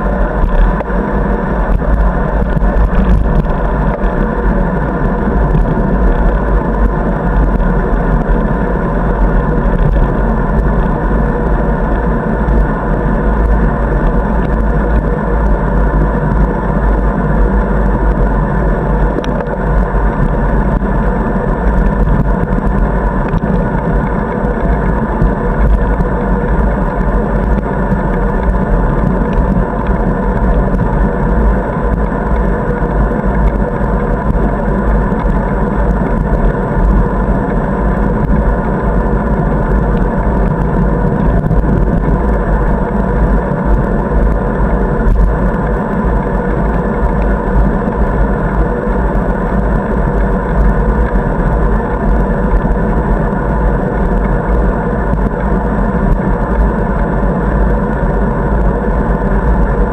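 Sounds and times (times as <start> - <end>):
muffled wind: 0.0 - 59.9
road rumble: 0.0 - 59.9.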